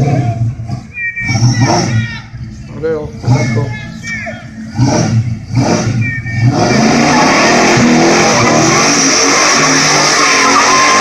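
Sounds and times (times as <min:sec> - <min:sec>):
car engine revving: 0:00.0 - 0:11.0
tires squealing: 0:00.0 - 0:11.0.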